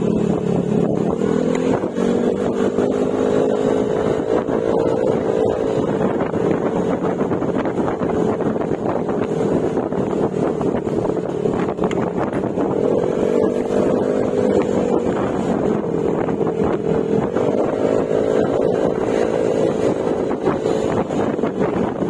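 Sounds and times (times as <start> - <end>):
scooter engine running: 0.0 - 22.0
wind buffeting microphone: 0.0 - 22.0.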